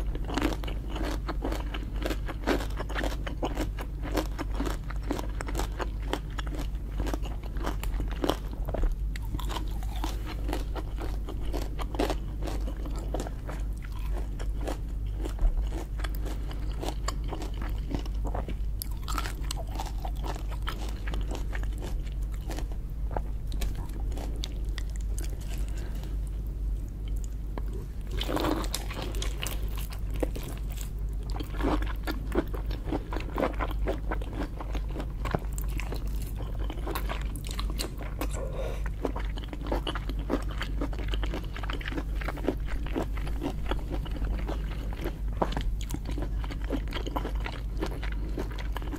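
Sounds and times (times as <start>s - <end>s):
crunching and wet chewing: 0.0s - 48.9s
steady low hum: 0.0s - 48.9s.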